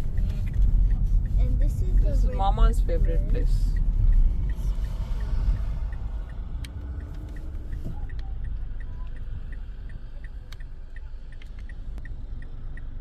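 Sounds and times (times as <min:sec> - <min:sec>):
car engine low rumble: 0:00.0 - 0:13.0
turn signal ticking: 0:00.0 - 0:13.0.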